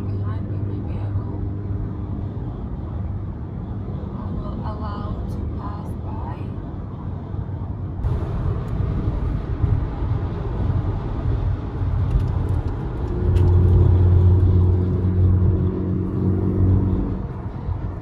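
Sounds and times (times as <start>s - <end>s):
car engine and road noise: 0.0s - 18.0s
low engine drone: 0.0s - 18.0s.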